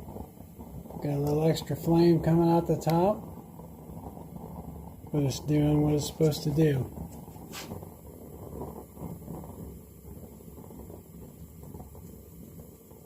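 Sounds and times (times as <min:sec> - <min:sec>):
gas burner flame rumbling: 0:00.0 - 0:13.0.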